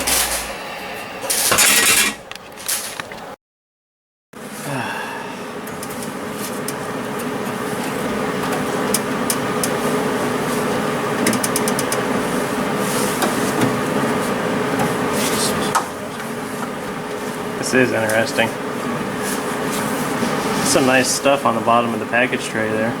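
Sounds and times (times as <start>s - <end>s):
mechanical hum with held tone: 0.0s - 3.4s, 4.4s - 23.0s.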